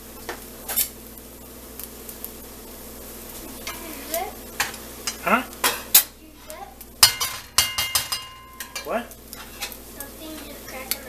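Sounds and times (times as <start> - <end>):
eggs sizzling: 0.0 - 11.0.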